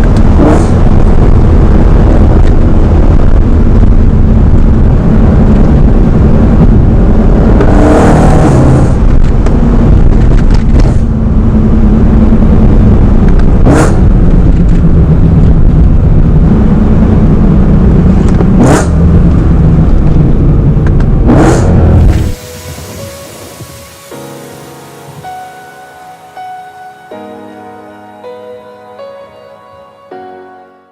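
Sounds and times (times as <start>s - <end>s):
car engine accelerating hard: 0.0s - 25.3s.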